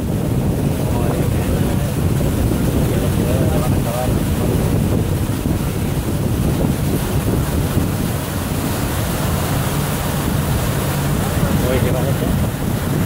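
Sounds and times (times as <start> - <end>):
low engine hum: 0.0 - 13.0
water rushing from wake: 0.0 - 13.0
wind buffeting microphone: 0.0 - 13.0.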